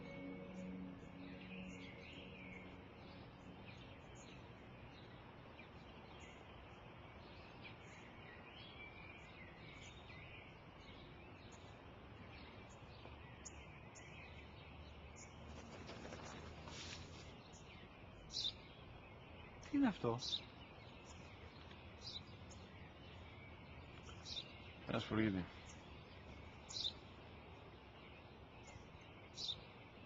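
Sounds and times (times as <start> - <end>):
bird chirps: 0.0 - 30.0
low outdoor hiss: 0.0 - 30.0.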